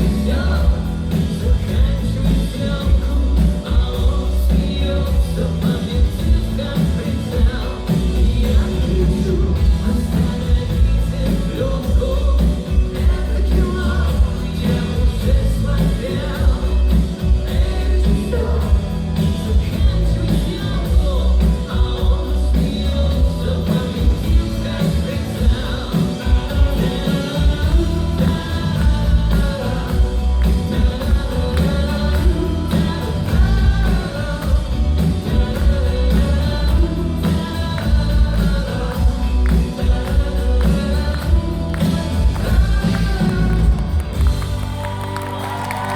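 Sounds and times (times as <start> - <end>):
person singing: 0.0 - 45.9
rock band playing live: 0.0 - 45.9.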